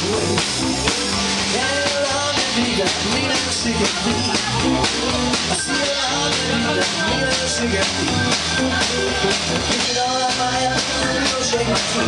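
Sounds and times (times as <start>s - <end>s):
drum kit: 0.0s - 12.0s
electric guitar lead: 0.0s - 12.0s.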